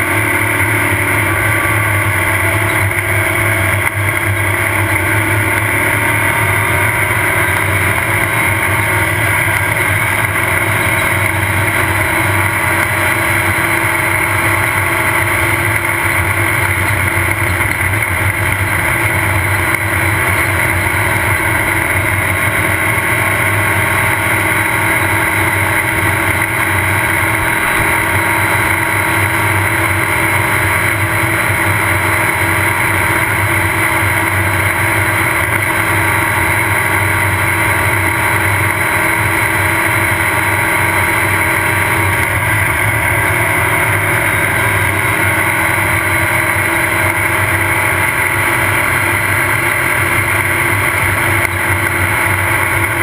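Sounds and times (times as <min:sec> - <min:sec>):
race car engine running: 0:00.0 - 0:53.0
wind and road noise: 0:00.0 - 0:53.0.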